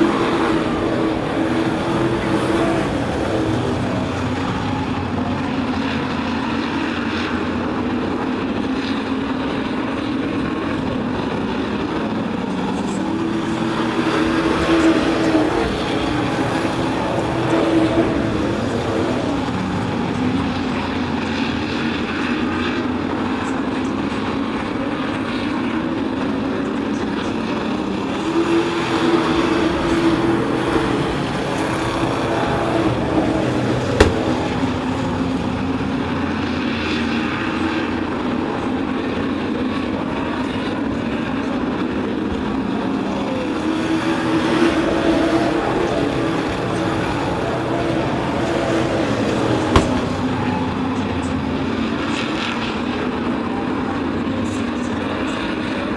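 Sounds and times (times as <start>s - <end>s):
racing truck engines droning: 0.0s - 55.9s.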